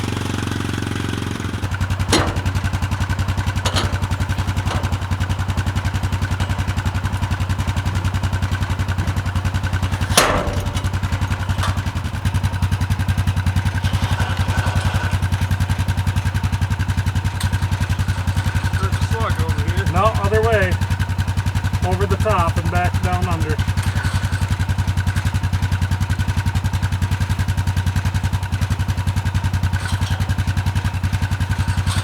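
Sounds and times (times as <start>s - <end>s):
sawmill engine pulsing: 0.0s - 32.0s.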